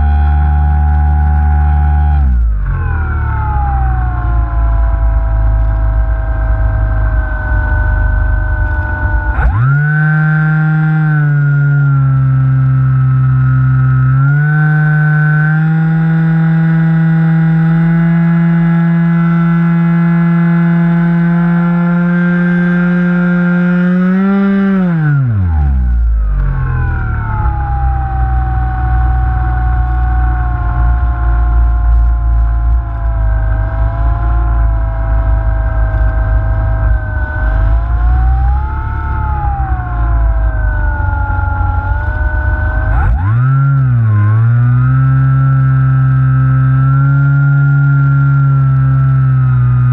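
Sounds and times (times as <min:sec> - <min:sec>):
electric motor and propeller whine: 0:00.0 - 0:49.9.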